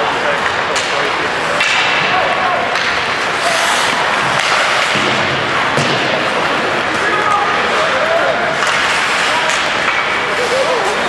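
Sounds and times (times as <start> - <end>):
rink background noise: 0.0 - 11.0.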